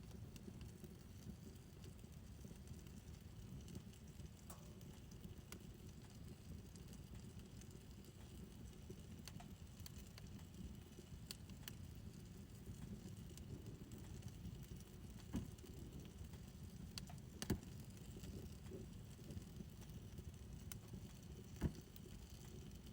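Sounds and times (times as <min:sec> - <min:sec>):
fire crackling and popping: 0:00.0 - 0:22.9
fire flames rumbling: 0:00.1 - 0:22.9.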